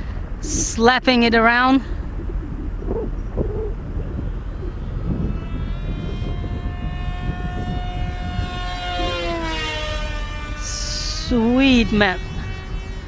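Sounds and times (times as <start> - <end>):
electric motor and propeller whining: 0.0 - 13.0
wind rumbling on microphone: 0.0 - 13.0.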